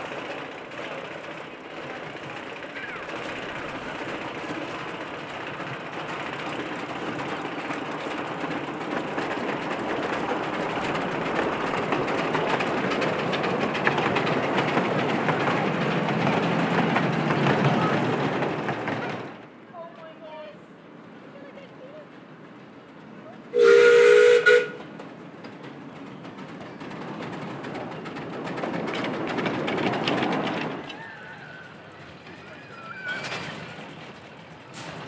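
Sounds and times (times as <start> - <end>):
wheels clattering on rails: 0.0 - 20.2, 21.1 - 35.0
steam train running by: 0.0 - 35.0.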